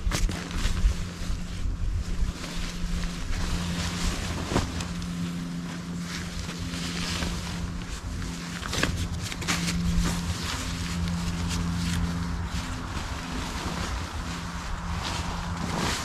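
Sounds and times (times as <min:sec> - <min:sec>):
faint steady hum: 0:00.0 - 0:16.0
rustles: 0:00.0 - 0:16.0
wind rumbling on microphone: 0:00.0 - 0:16.0.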